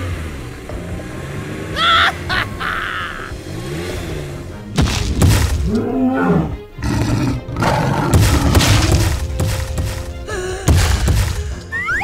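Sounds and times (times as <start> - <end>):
cartoon background music: 1.7 - 12.0.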